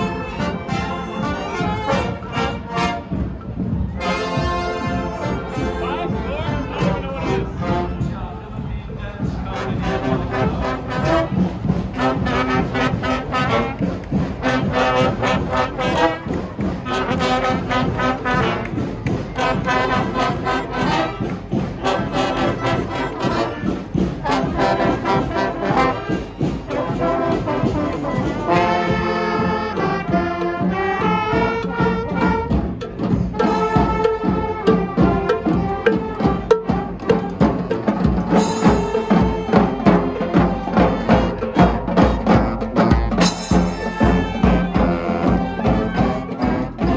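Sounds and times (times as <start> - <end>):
drums beating: 0.0 - 46.9
marching brass band playing: 0.0 - 46.9.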